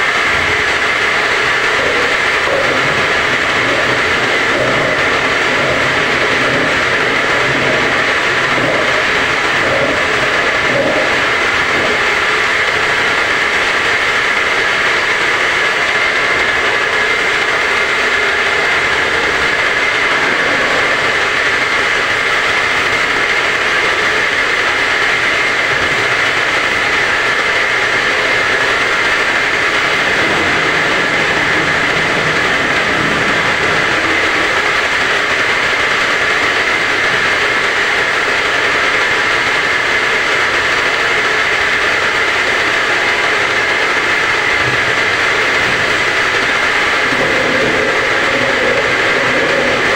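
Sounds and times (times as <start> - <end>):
washing machine running: 0.0 - 49.9.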